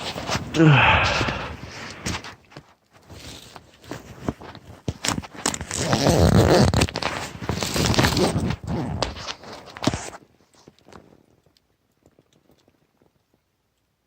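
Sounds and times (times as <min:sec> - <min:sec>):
sleeping bag rustling: 0:00.0 - 0:13.1.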